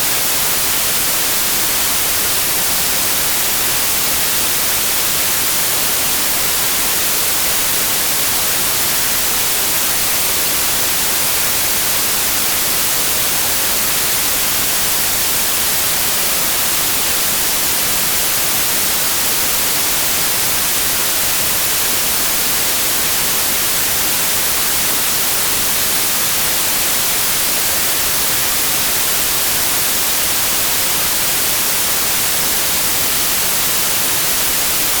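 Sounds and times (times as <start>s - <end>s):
white noise hiss: 0.0s - 35.0s.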